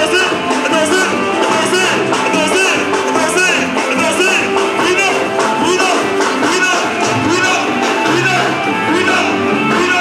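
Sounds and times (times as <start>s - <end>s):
dance music with singing: 0.0s - 10.0s.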